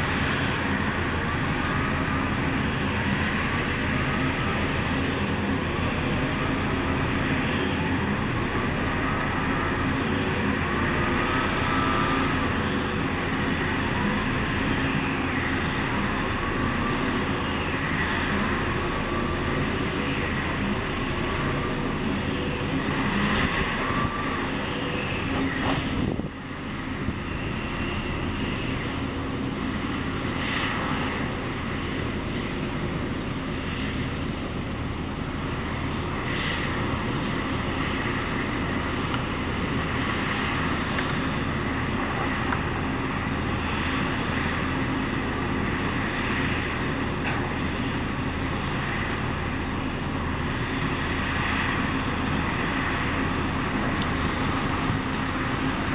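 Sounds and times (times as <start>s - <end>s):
drilling rig machinery humming: 0.0s - 55.9s.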